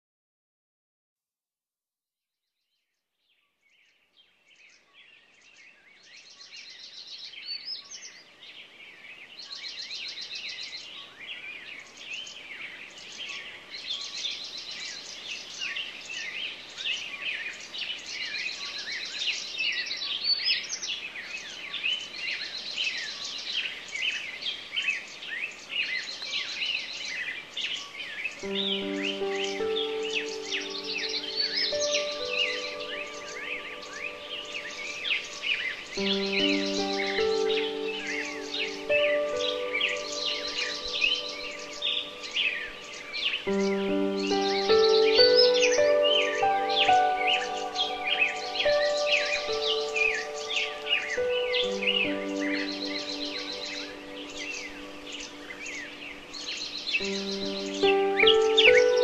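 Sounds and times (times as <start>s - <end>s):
chorus of birds singing: 3.3s - 59.0s.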